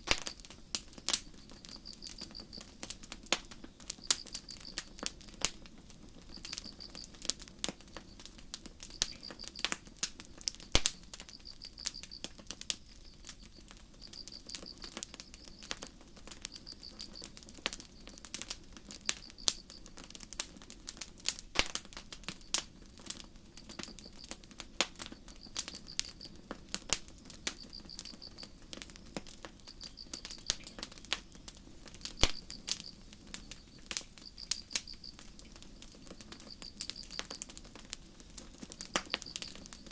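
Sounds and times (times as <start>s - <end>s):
campfire crackling and popping: 0.0s - 39.9s
crickets chirping: 0.2s - 9.8s, 10.6s - 18.2s, 18.9s - 20.0s, 23.5s - 39.9s.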